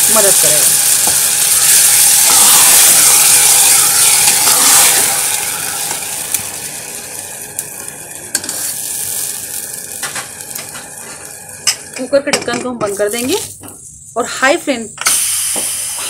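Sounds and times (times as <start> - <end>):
water hissing in hot oil: 0.0 - 13.7, 15.0 - 16.0.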